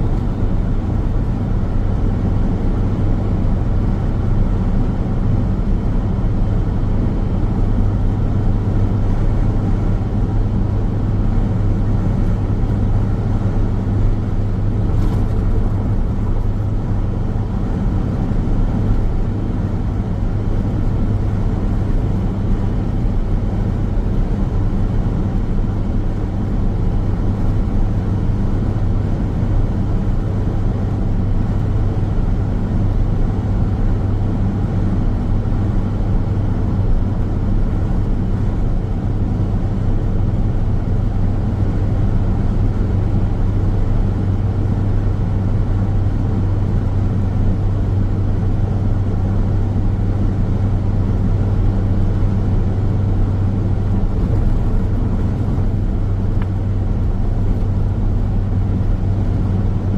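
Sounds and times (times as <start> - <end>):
car road noise drone: 0.0 - 59.9.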